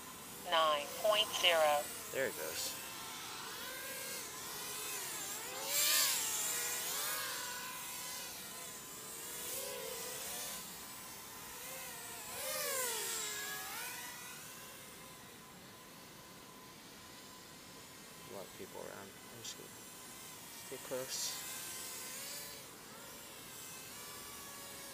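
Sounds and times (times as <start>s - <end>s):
quadcopter motors whining: 0.0s - 24.9s.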